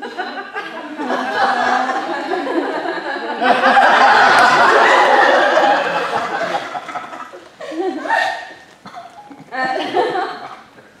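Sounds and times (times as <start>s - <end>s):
audience laughing: 0.0s - 10.6s.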